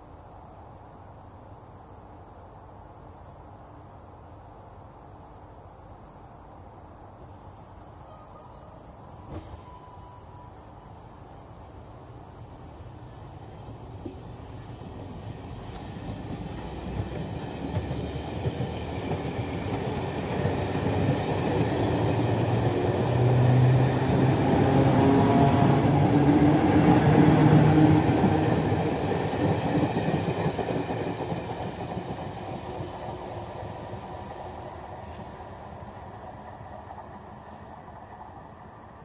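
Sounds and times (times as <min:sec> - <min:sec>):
electric train on rails: 0:06.5 - 0:39.0.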